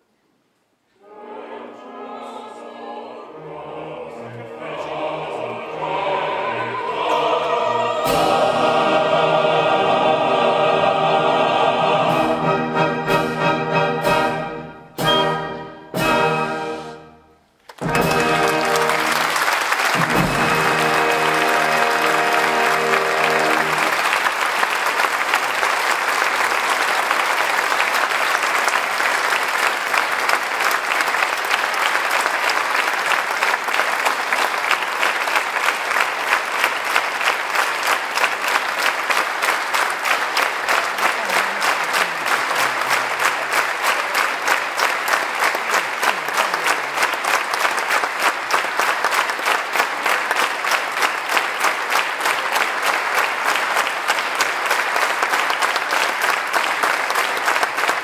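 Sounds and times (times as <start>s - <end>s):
audience applause: 4.6s - 11.8s, 17.6s - 58.0s
rhythmic clapping in unison: 4.8s - 13.3s, 17.6s - 58.0s.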